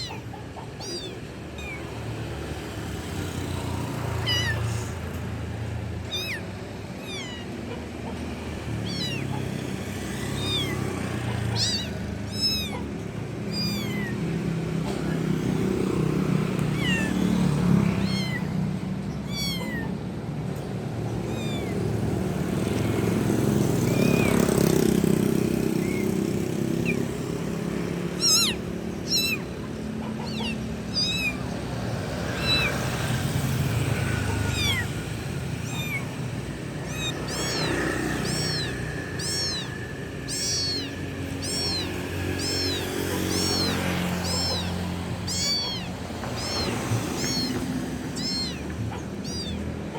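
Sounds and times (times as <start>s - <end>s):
kittens mewing: 0.0s - 49.9s.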